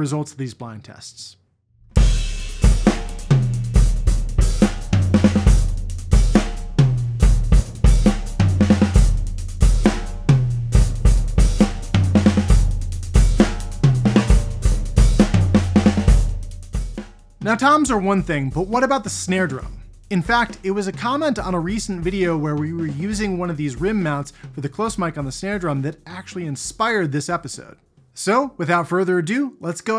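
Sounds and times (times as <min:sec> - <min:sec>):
tom drum fills: 0:01.9 - 0:26.8
acoustic drum kit groove: 0:02.0 - 0:28.2.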